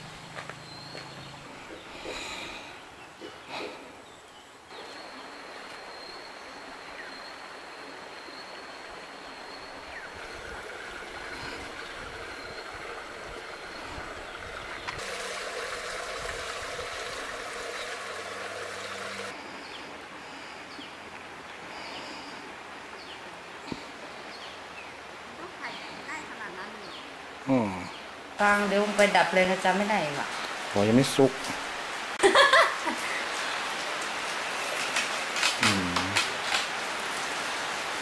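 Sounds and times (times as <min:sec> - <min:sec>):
water rushing and gurgling: 0:04.7 - 0:38.0.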